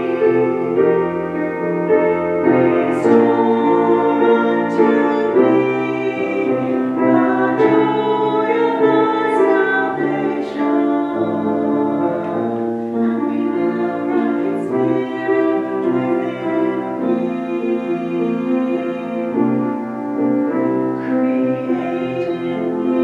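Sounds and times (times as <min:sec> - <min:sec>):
two singers singing a duet: 0:00.0 - 0:01.0, 0:02.4 - 0:19.7, 0:21.0 - 0:23.0
piano accompaniment: 0:00.0 - 0:23.0.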